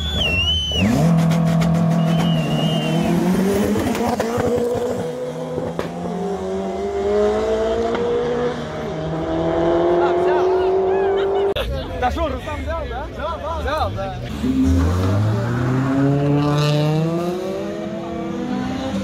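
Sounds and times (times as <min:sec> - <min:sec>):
drag cars accelerating hard: 0:00.0 - 0:11.6, 0:14.2 - 0:19.0.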